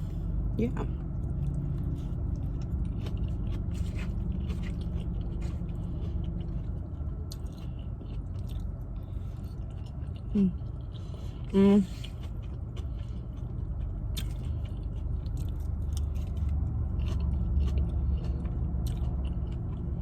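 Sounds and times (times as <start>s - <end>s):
steady low hum: 0.0s - 20.0s
chewing food with crunches: 0.9s - 20.0s.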